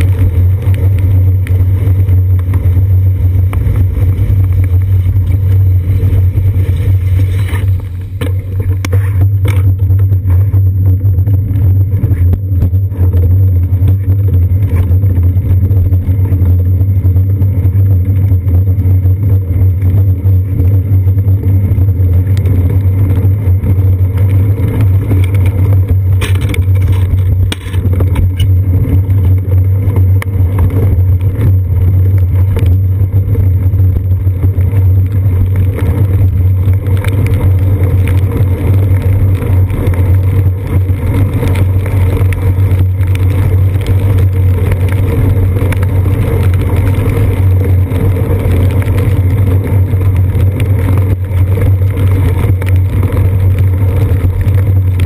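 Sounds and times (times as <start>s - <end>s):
bicycle rumble on wet pavement: 0.0s - 55.0s
wind: 0.0s - 55.0s.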